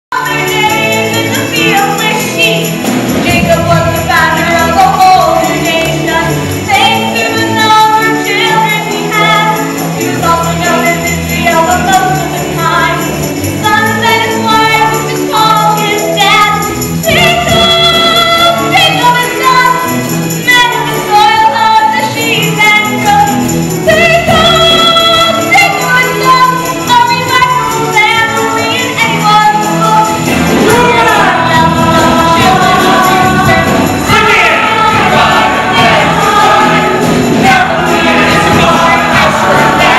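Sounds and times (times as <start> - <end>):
chorus singing: 0.1 - 23.0, 23.6 - 39.9
musical accompaniment: 0.1 - 39.9.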